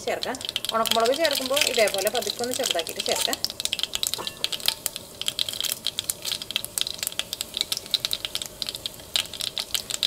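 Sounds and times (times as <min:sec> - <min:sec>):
chillies frying crackle: 0:00.0 - 0:10.0
seeds popping in hot oil: 0:00.0 - 0:10.0.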